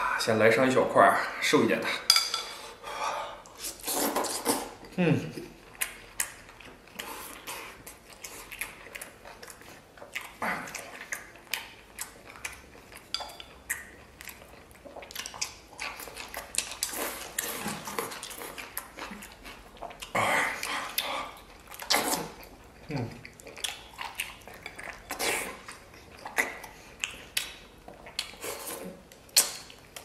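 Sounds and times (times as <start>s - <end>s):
chewing and smacking: 5.5s - 30.0s.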